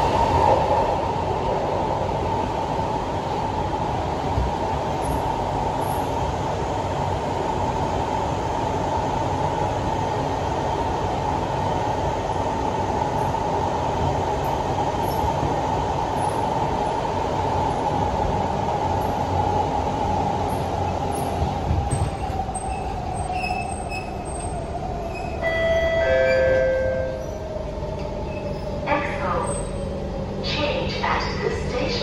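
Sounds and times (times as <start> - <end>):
high train hum: 0.0 - 32.0
train wheels rumbling on track: 0.0 - 32.0.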